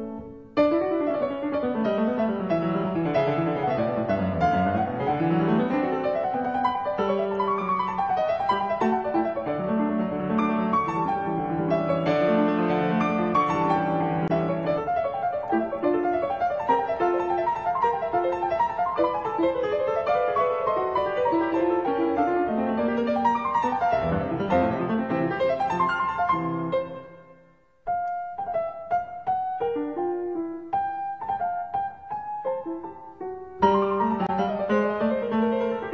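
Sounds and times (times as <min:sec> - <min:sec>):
fast piano music: 0:00.0 - 0:35.9.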